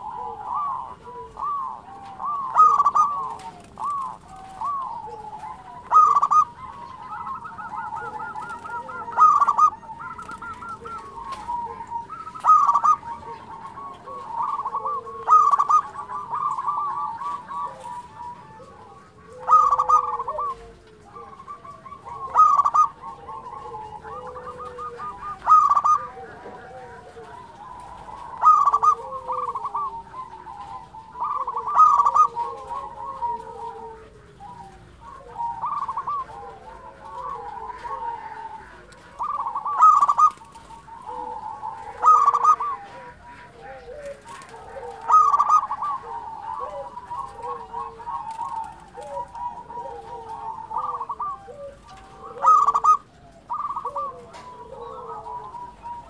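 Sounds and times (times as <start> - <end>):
dove cooing song: 0.0 - 56.0.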